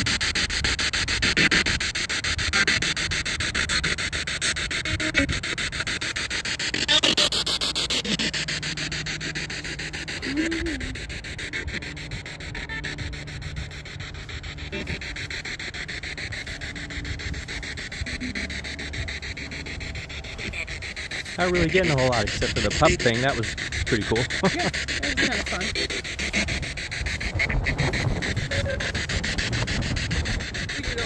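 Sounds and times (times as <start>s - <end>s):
fast clicks: 0.0s - 31.0s
radio static hiss: 4.9s - 31.0s.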